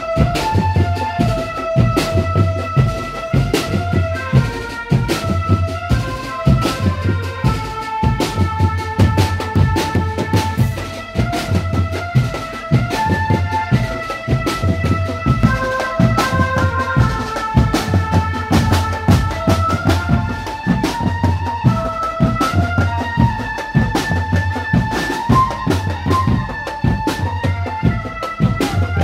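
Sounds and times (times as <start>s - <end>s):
drums beating steady rhythm: 0.0s - 29.0s
high melody line: 2.9s - 28.1s.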